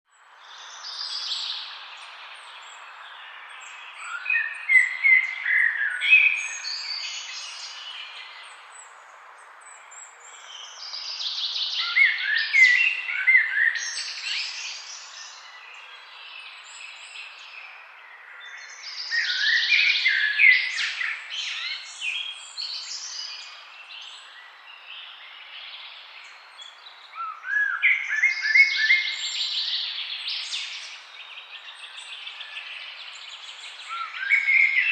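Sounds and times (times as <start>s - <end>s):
songbird chirping: 0.1s - 34.9s.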